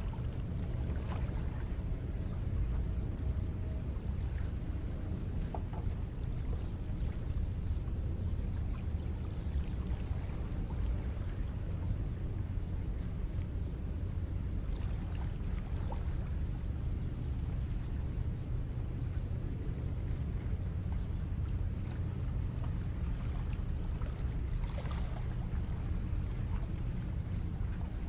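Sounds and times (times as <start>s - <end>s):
water at shoreline: 0.0s - 28.0s
wind: 0.0s - 28.0s.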